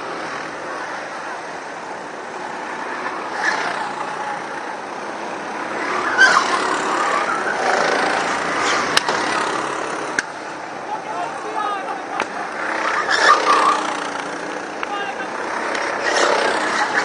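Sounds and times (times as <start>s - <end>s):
go-kart engines racing: 0.0s - 17.0s.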